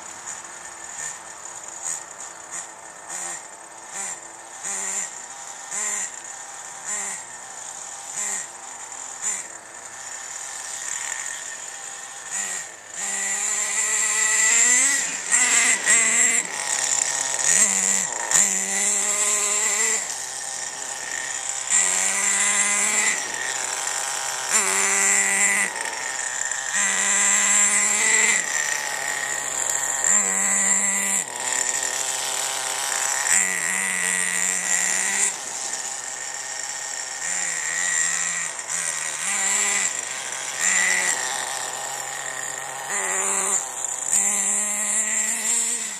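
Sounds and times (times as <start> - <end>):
toy car motor revving: 0.0 - 45.9.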